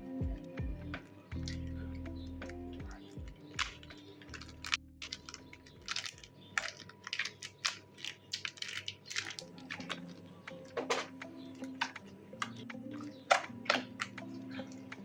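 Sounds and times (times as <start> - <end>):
slime squished by hand: 2.9 - 14.9.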